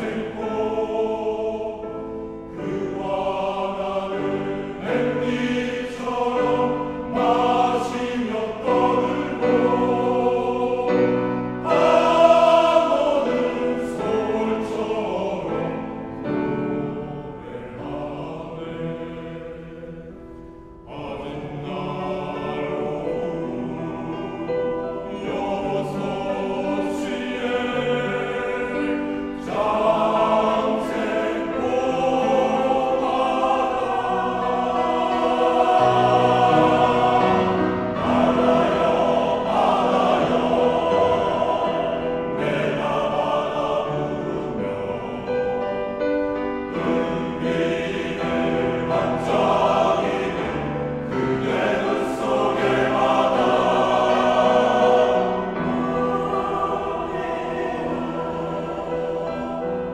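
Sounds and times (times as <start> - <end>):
grand piano accompaniment: 0.0 - 59.9
male choir singing: 0.0 - 59.9.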